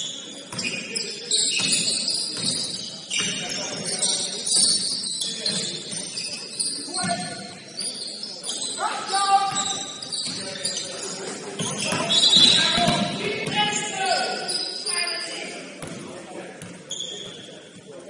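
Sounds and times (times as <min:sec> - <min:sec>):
sneakers squeaking on court: 0:00.0 - 0:18.0.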